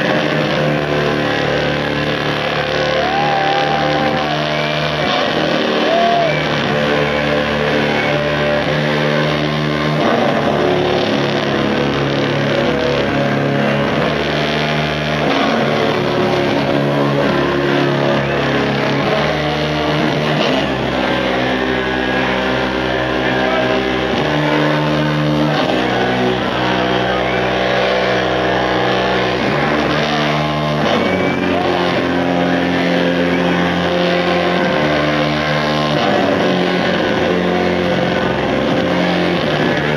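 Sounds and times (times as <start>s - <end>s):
bass guitar: 0.0s - 39.9s.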